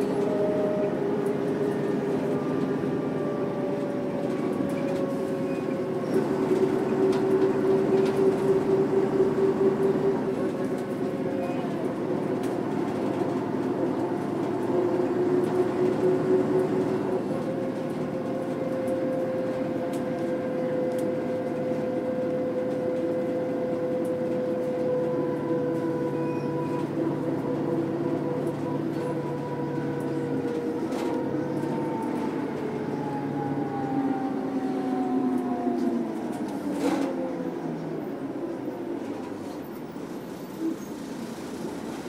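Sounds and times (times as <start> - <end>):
diesel bus engine rumble: 0.0 - 42.0.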